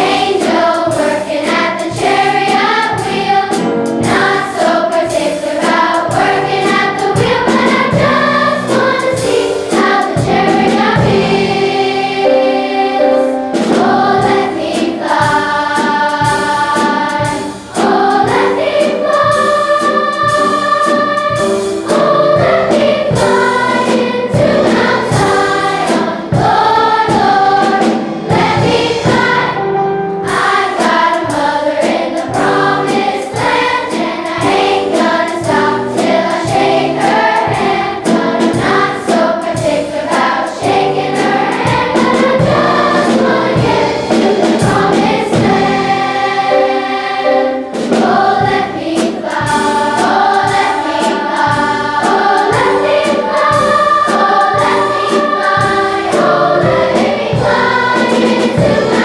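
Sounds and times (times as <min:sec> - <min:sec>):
children's choir singing: 0:00.0 - 0:59.0
rhythmic piano chords: 0:00.0 - 0:59.0.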